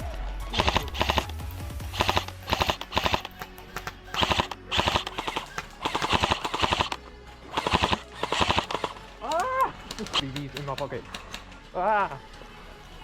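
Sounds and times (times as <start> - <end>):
airsoft rifles firing bursts: 0.5 - 11.4.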